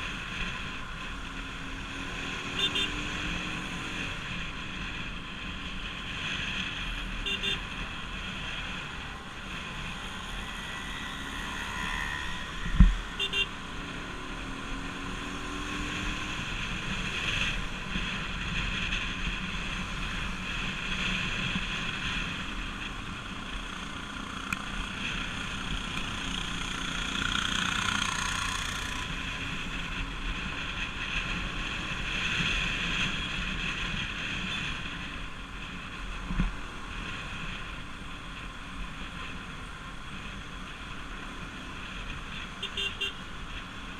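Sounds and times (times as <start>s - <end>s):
motorcycle engine roar: 0.0s - 43.9s.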